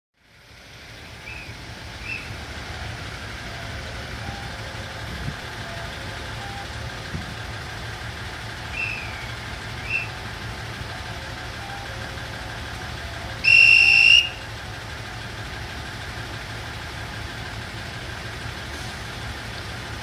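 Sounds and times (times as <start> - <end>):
railcar diesel engine idling: 0.2 - 20.0.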